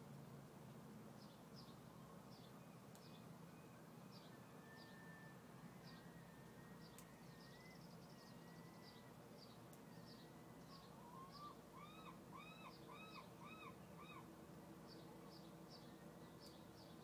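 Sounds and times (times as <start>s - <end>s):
faint low hum: 0.0s - 17.0s
faint bird chirps: 1.2s - 17.0s
rising and falling bird calls: 2.3s - 17.0s.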